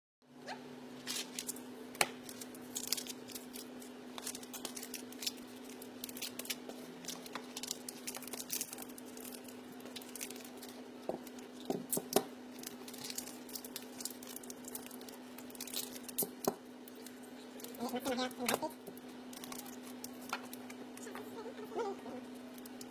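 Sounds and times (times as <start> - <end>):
steady low hum: 0.3 - 22.9
wrapping paper crinkling: 1.0 - 22.9.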